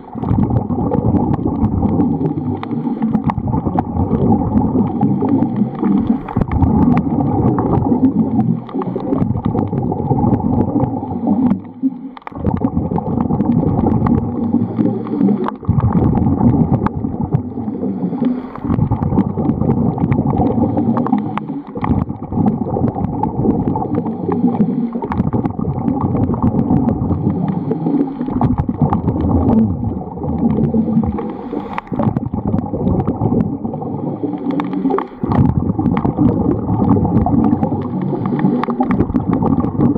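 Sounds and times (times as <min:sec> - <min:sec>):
underwater diver breathing bubbles: 0:00.0 - 0:39.9.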